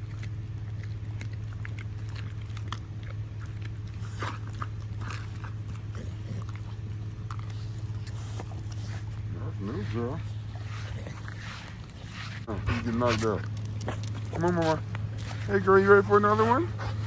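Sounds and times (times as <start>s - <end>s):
dog chewing bone: 0.0s - 17.0s
low hum: 0.0s - 17.0s.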